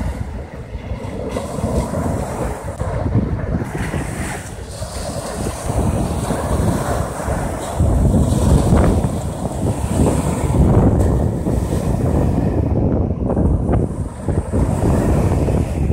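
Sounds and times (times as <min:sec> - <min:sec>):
small waves breaking on beach: 0:00.0 - 0:15.9
wind buffeting microphone: 0:00.0 - 0:15.9.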